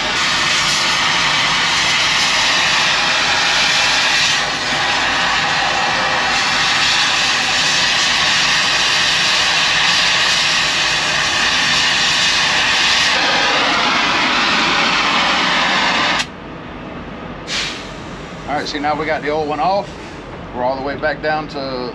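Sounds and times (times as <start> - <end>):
cutting torch hissing: 0.0 - 16.3, 17.5 - 20.2.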